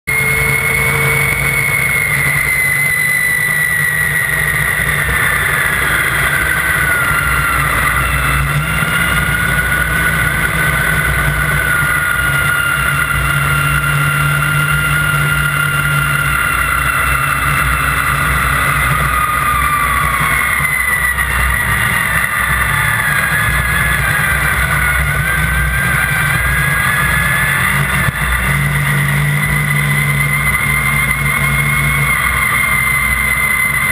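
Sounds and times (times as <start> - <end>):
snowmobile engine droning: 0.0 - 33.9.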